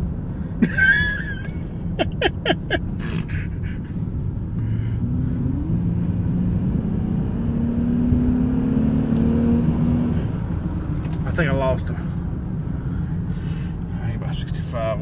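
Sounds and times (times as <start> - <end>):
truck engine accelerating: 0.0 - 14.1.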